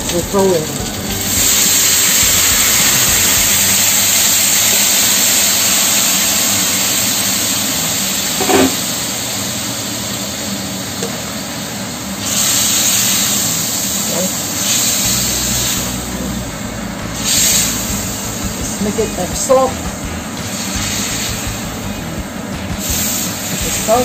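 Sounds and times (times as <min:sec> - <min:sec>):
liquid sizzling in frying pan: 0:00.0 - 0:24.0.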